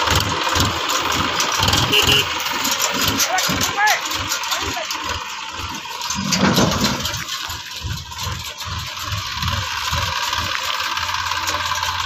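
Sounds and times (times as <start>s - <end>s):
tractor diesel engine throbbing: 0.0s - 12.0s.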